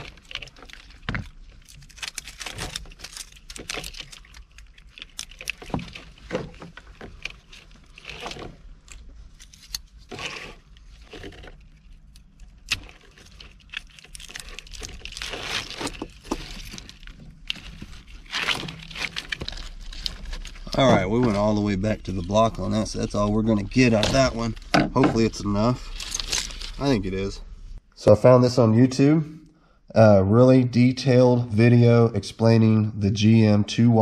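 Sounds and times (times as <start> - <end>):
wires and plastic loom rustling: 0.0 - 27.4.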